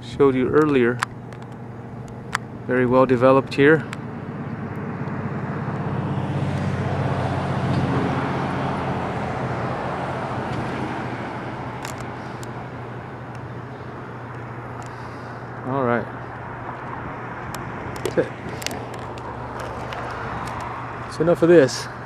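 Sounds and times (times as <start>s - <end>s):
vehicle passing by: 2.6s - 22.0s.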